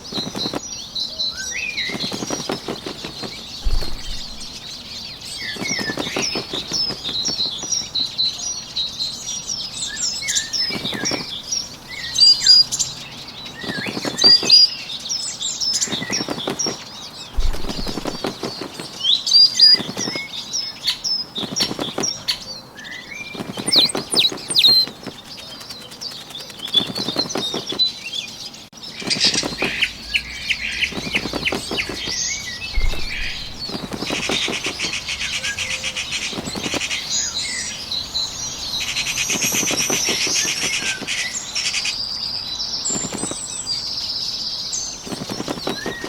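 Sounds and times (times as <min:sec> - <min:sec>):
bird wings flapping: 0:00.0 - 0:08.3, 0:09.9 - 0:22.5, 0:23.1 - 0:41.9, 0:42.8 - 0:43.5, 0:45.0 - 0:46.0
songbird chirps: 0:00.0 - 0:46.0.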